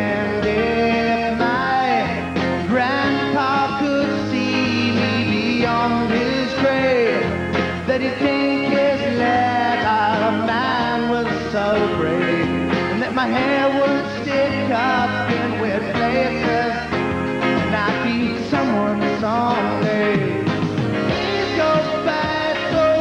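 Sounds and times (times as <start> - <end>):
acoustic and electric guitars: 0.0 - 23.0
person singing: 0.0 - 23.0.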